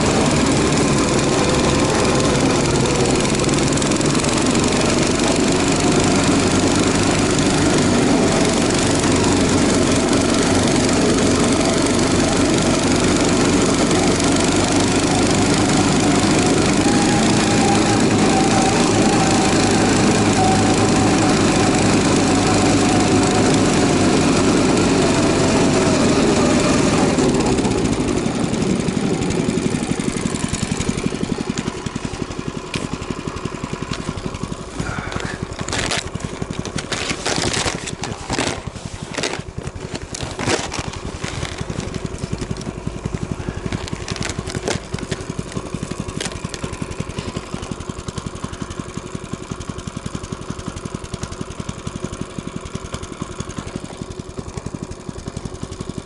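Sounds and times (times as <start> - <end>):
engine running then idling: 0.0 - 56.0.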